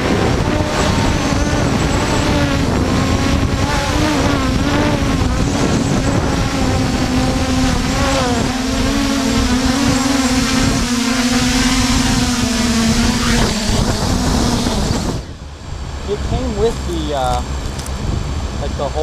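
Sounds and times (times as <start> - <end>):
quadcopter motors whining: 0.0 - 19.0
wind buffeting microphone: 0.0 - 19.0.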